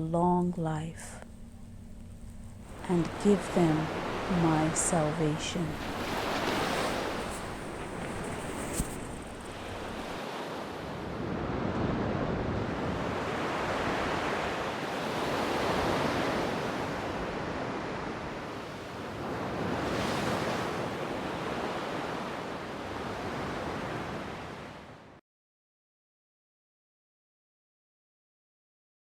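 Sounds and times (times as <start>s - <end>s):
ocean waves washing on shore: 1.3s - 25.2s.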